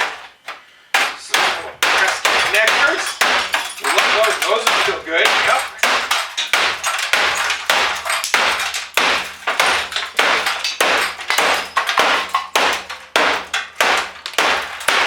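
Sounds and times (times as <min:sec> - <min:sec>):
hammer smashing computer: 0:01.0 - 0:15.0.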